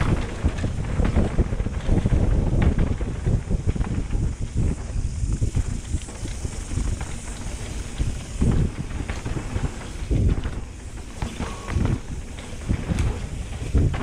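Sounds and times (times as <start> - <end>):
bike rattling: 0.0 - 14.0
bike tyres rolling over dirt: 0.0 - 14.0
wind rushing over microphone: 0.0 - 14.0.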